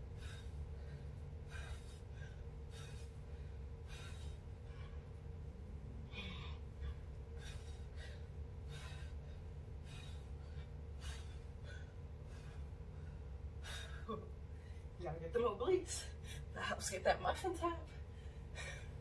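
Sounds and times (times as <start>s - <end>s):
woman's sharp breaths: 0.0s - 15.0s, 17.9s - 19.0s
steady low hum: 0.0s - 19.0s.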